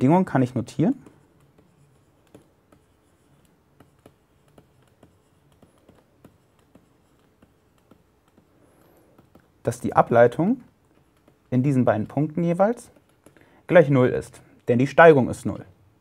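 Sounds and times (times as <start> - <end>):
stylus tapping and scratching tablet: 0.0 - 15.3.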